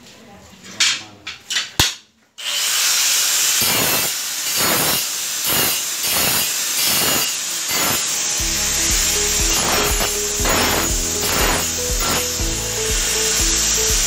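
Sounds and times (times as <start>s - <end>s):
angle grinder cutting tile: 2.4s - 14.0s.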